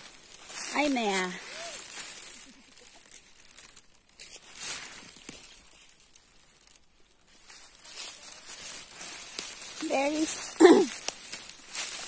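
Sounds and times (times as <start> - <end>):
rustling and crackling leaves: 0.0 - 12.0.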